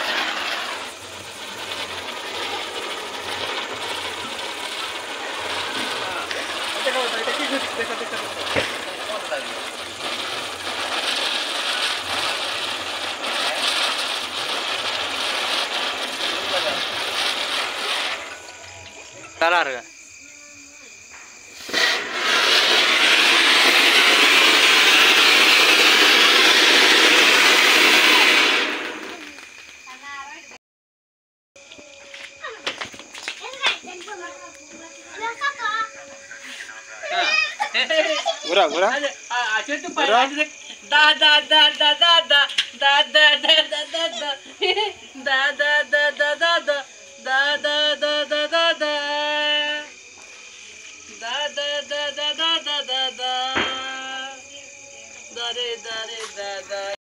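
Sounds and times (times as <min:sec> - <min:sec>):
spinner firework hissing and crackling: 0:00.0 - 0:30.6, 0:31.6 - 0:57.0.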